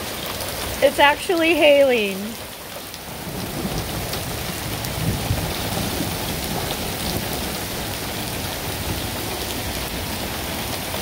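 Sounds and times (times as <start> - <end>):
hailstones ticking: 0.0 - 11.0
heavy rain on concrete: 0.0 - 11.0.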